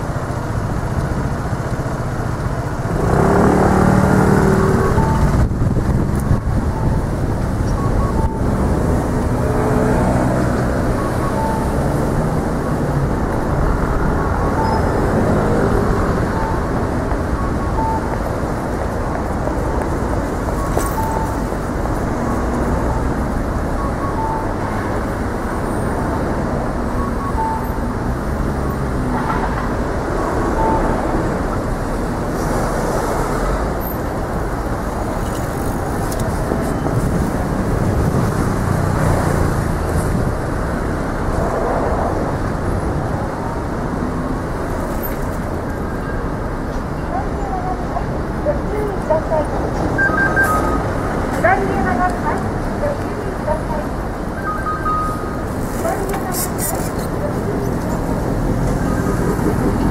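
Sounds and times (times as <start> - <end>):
city street traffic rumble: 0.0 - 59.9.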